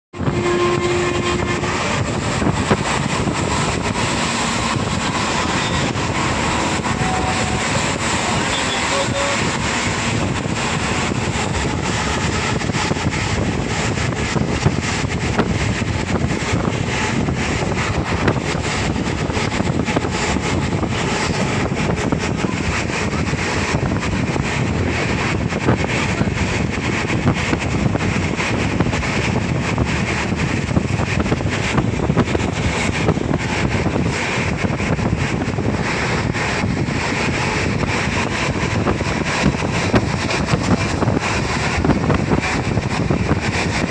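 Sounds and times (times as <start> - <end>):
vehicle running noise and wind rush: 0.0 - 43.9
wind buffeting microphone: 0.1 - 43.9.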